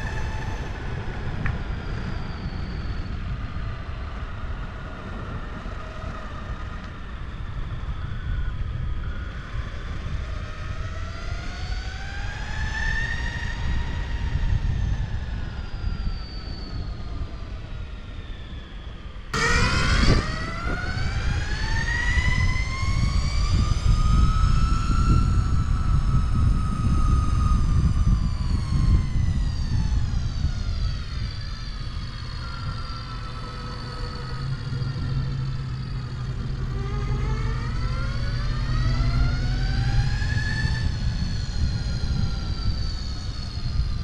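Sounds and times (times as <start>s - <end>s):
siren wailing: 0.0s - 44.0s.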